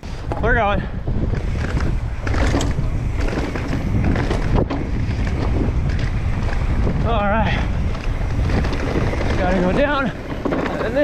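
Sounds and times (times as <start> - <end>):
bike knocking and rattling: 0.0 - 11.0
wind on microphone: 0.0 - 11.0
tyres crunching on dirt: 1.4 - 11.0.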